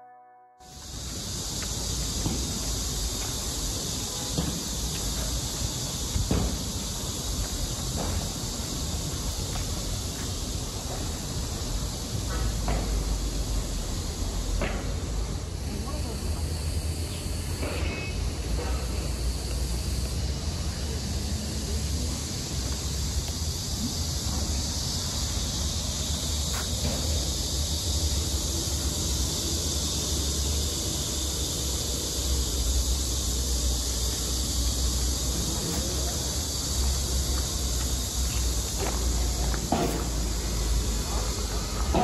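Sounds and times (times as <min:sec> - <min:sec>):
insects buzzing: 0:00.6 - 0:42.0.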